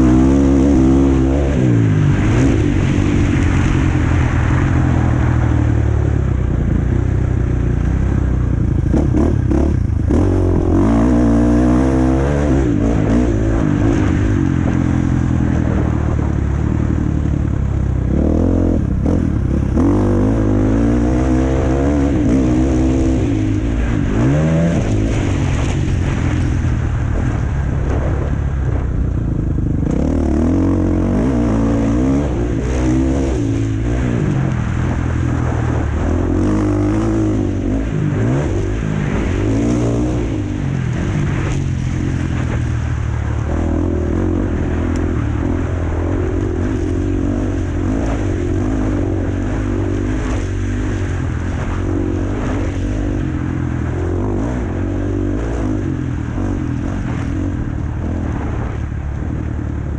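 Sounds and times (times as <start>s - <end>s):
motocross bike engine revving: 0.0s - 5.4s, 8.4s - 16.6s, 18.0s - 26.8s, 29.6s - 59.1s.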